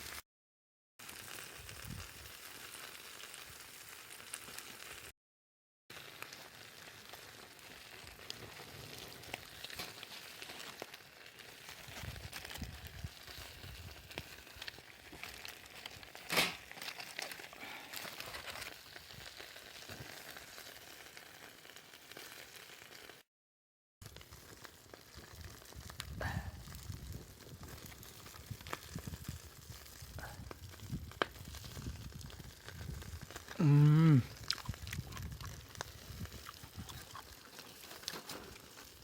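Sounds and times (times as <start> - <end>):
food sizzling over campfire: 0.0 - 0.2, 1.0 - 5.2, 5.9 - 23.3, 24.0 - 39.0.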